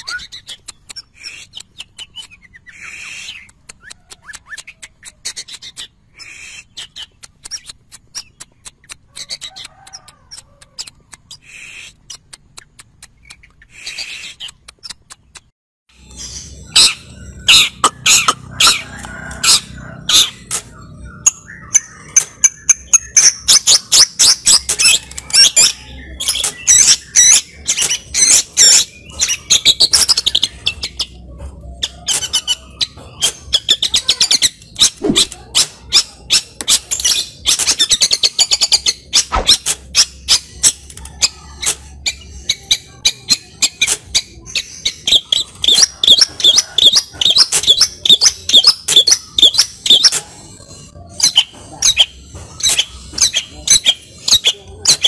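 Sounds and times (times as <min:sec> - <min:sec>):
bird singing chattering notes: 0:00.0 - 0:55.0.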